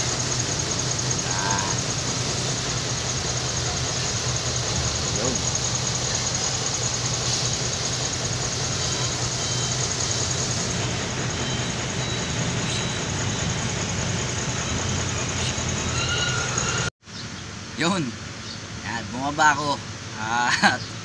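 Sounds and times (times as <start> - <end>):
high-pitched whine: 0.0 - 16.9
truck engine droning: 0.0 - 16.9.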